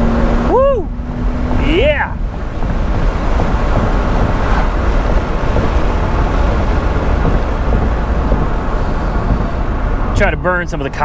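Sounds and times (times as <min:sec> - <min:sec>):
road and engine noise: 0:00.0 - 0:11.0
wind buffeting microphone: 0:00.0 - 0:11.0.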